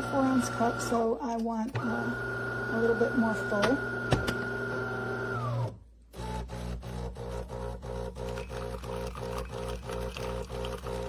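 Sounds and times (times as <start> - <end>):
espresso machine pump humming: 0.0 - 1.2, 1.8 - 11.0.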